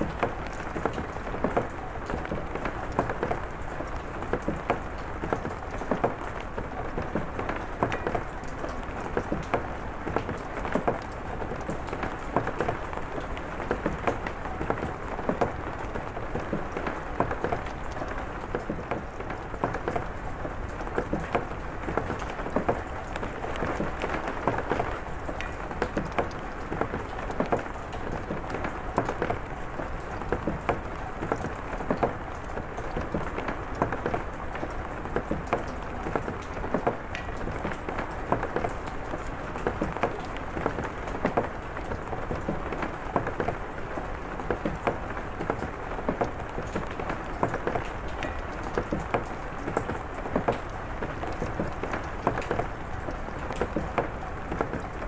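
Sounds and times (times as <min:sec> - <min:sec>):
raindrops tapping close by: 0:00.0 - 0:55.0
steady rain falling: 0:00.0 - 0:55.0.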